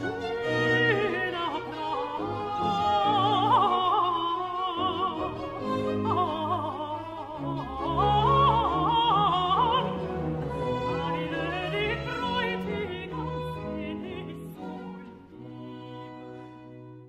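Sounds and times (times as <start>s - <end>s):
orchestra playing: 0.0s - 17.0s
high voice singing with vibrato: 0.4s - 14.7s.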